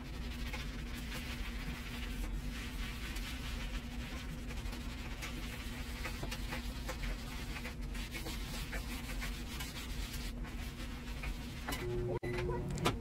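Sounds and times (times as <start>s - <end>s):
scrubbing pad on countertop: 0.0s - 11.7s.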